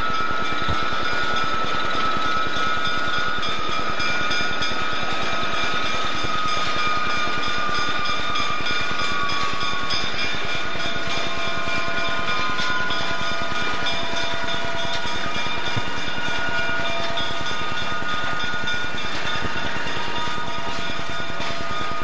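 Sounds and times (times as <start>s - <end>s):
diesel locomotive engine pulsing: 0.0s - 22.0s.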